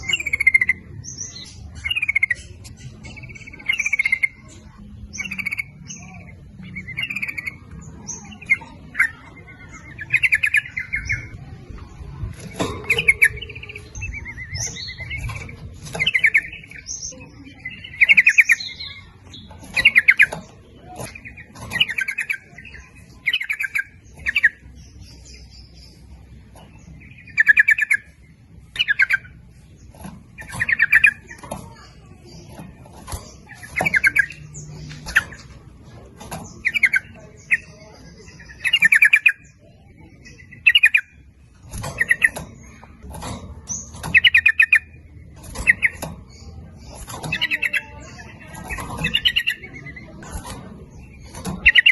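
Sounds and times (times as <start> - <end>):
bird singing warbling phrases: 0.0 - 51.9.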